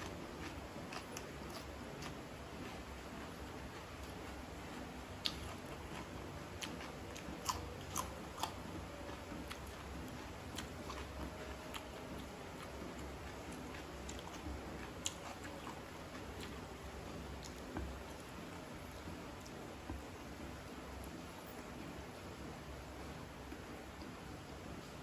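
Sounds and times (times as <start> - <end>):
person chewing food: 0.0 - 21.2.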